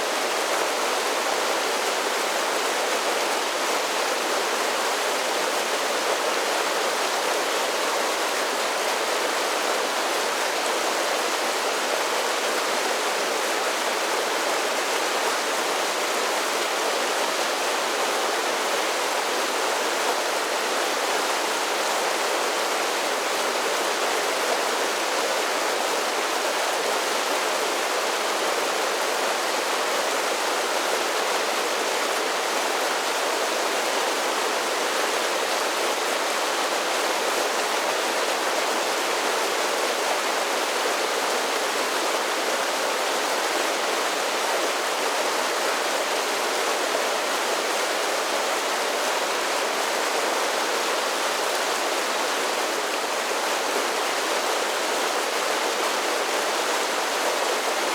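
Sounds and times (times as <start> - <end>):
creek rushing over small falls: 0.0 - 57.9.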